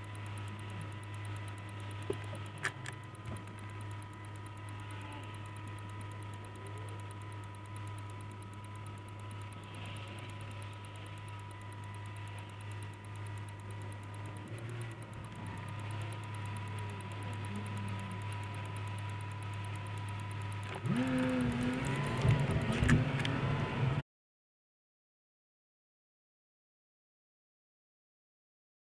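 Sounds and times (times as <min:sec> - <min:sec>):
car engine idling: 0:00.0 - 0:23.3.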